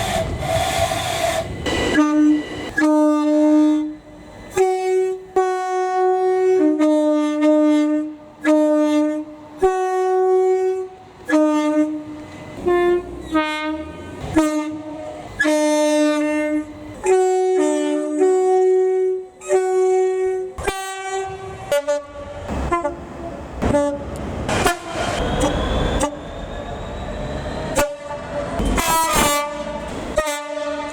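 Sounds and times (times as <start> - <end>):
train passing with wheel noise: 0.0 - 30.9
two-tone train horn blasts: 1.6 - 26.3, 27.7 - 30.9.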